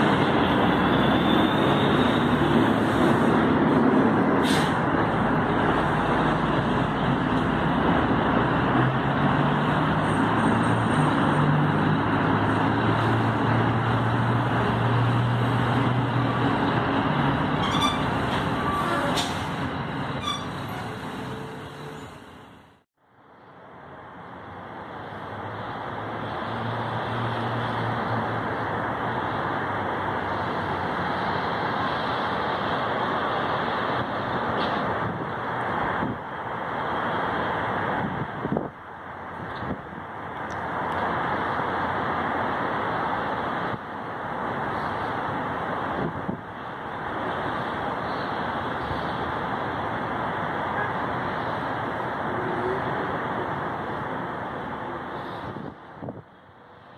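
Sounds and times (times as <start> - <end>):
heavy vehicle engine hum: 0.0 - 56.9
street traffic noise: 0.0 - 56.9.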